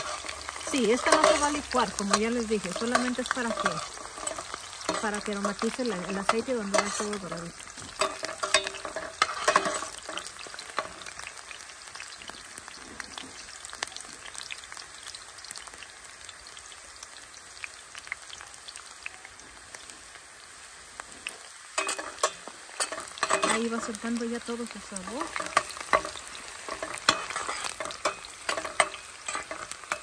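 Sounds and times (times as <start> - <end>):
oil popping and crackling: 0.0 - 30.0
onion sizzling in oil: 0.0 - 30.0.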